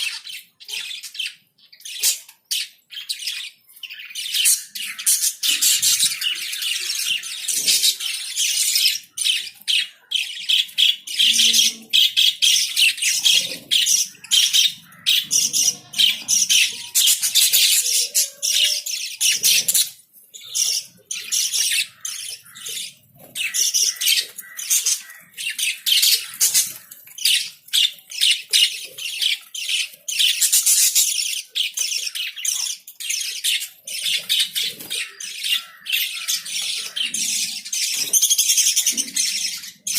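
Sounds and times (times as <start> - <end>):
lovebirds squawking and chirping: 0.0 - 39.9.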